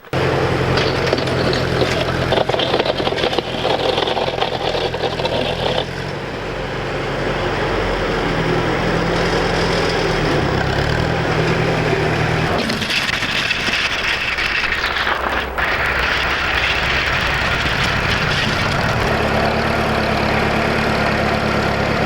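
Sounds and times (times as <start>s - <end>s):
dozer engine running: 0.0s - 22.0s.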